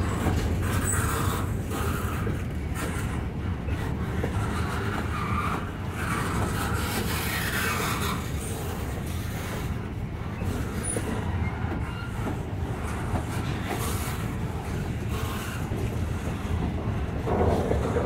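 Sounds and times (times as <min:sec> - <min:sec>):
freight cars rumbling on rails: 0:00.0 - 0:18.0.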